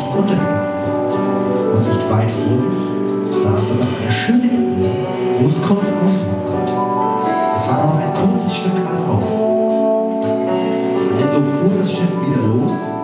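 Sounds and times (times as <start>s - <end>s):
small jazz ensemble playing: 0.0s - 13.0s.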